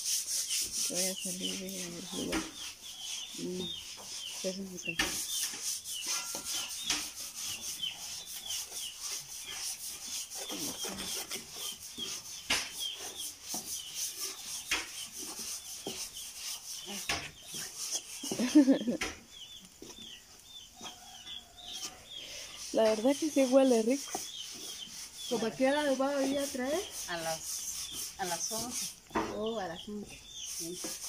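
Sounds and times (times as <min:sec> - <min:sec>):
wooden spatula scraping a pan: 0:00.0 - 0:20.2, 0:20.9 - 0:31.0.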